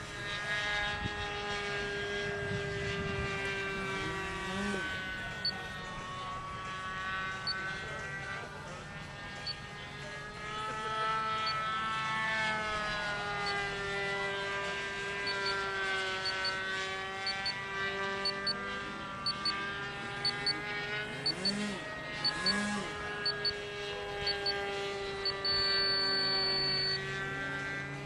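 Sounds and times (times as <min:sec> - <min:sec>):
model airplane engine drone: 0:00.0 - 0:28.0.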